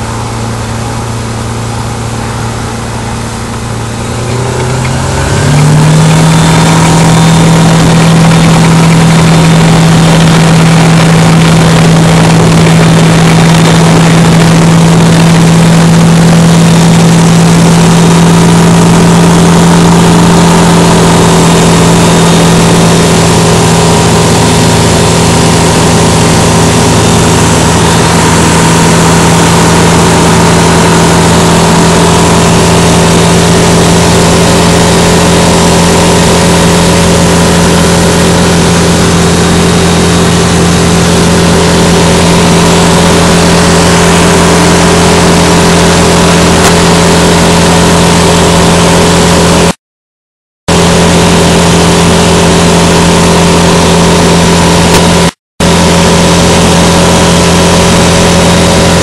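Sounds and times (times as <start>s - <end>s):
light aircraft engine and propeller: 0.0s - 49.8s, 50.7s - 59.0s.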